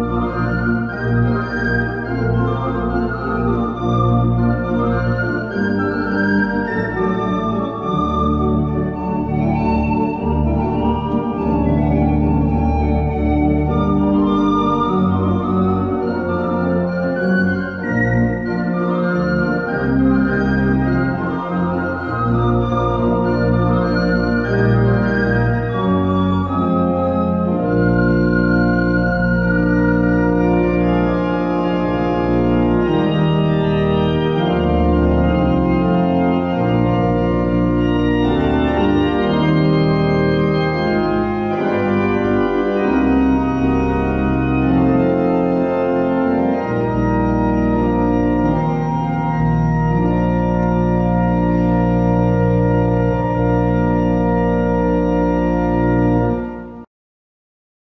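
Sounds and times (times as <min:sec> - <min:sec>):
church pipe organ chords: 0:00.0 - 0:56.9.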